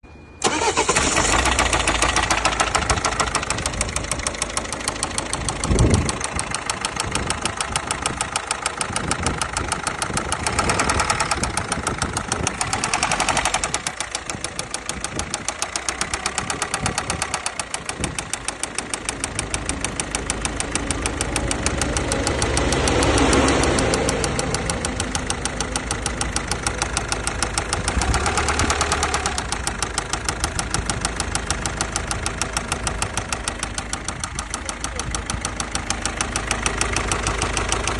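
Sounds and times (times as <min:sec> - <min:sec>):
diesel engine clatter: 0:00.4 - 0:37.9.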